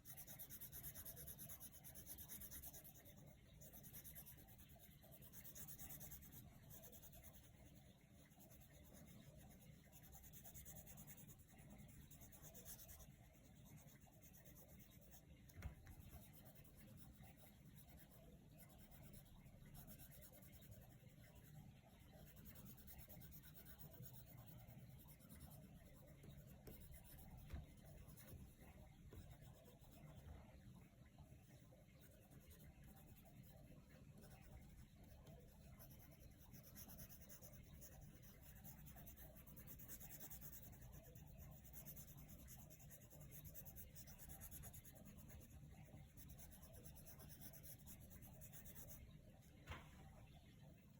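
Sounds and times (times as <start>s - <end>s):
pencil scratching on paper: 0.0s - 30.5s, 31.2s - 49.2s.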